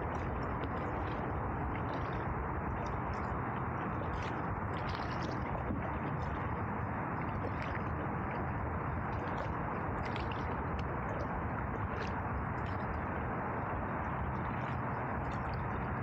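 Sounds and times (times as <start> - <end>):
paddle splashing and dripping: 0.0 - 16.0
water rushing: 0.0 - 16.0
wind: 0.0 - 16.0.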